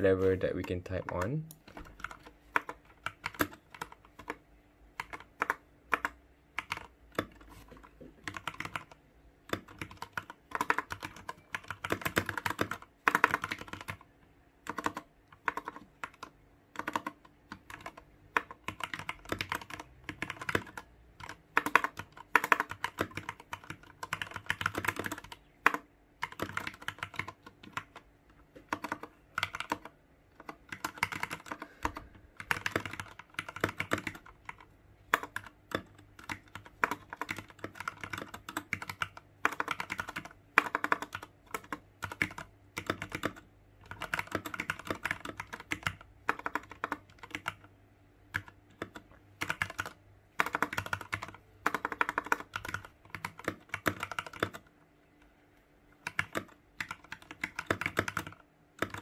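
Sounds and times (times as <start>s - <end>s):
mechanical keyboard typing: 0.0s - 47.7s, 48.3s - 54.7s, 56.0s - 59.0s.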